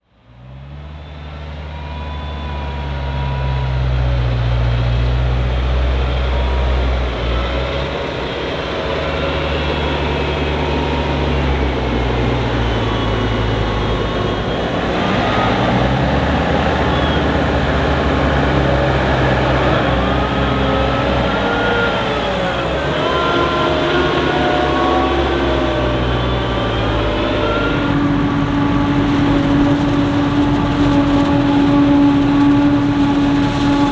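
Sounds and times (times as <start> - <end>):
harvester and tractor engines: 0.0 - 33.9.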